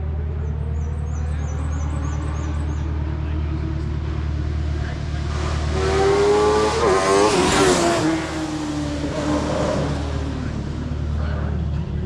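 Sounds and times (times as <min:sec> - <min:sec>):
race car passing by: 0:00.7 - 0:12.0.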